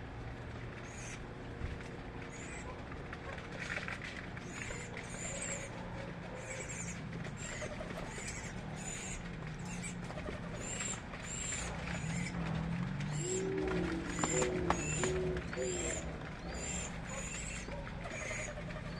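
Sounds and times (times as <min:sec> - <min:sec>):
birds chirping: 0:00.7 - 0:18.9.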